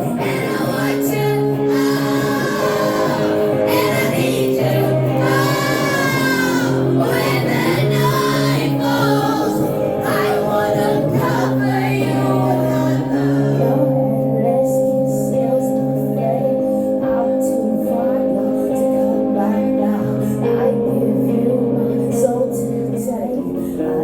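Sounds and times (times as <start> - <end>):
live band playing sustained chords: 0.0 - 24.0.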